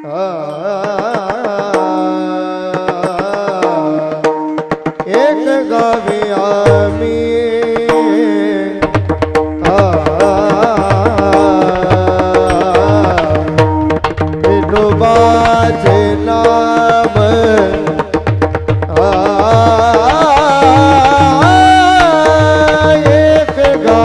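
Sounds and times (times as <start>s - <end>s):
person singing a melody: 0.0s - 4.4s, 5.0s - 24.0s
hand drum beat: 0.8s - 24.0s.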